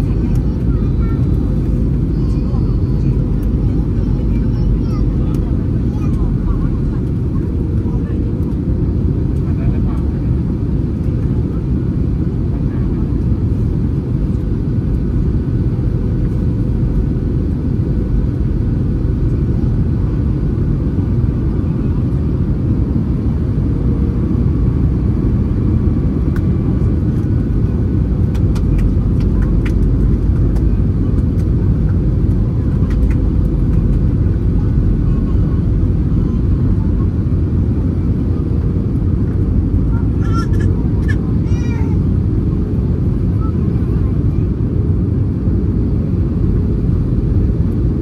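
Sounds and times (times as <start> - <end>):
airplane cabin engine rumble: 0.0 - 48.0.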